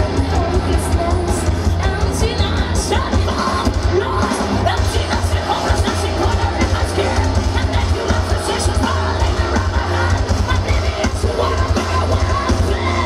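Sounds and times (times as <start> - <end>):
distorted guitars: 0.0 - 13.0
drums: 0.0 - 13.0
yelled and sung vocals: 0.0 - 13.0.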